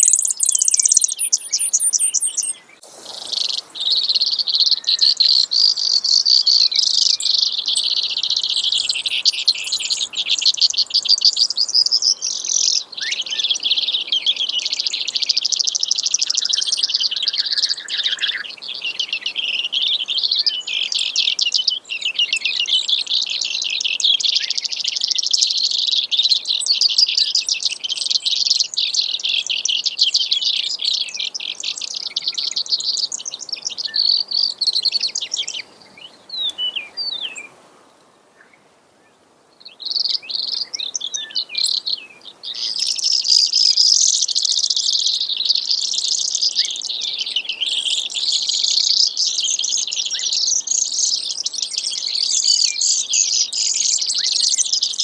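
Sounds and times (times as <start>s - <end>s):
bird singing rapid high trills: 0.0s - 37.5s, 39.6s - 55.0s.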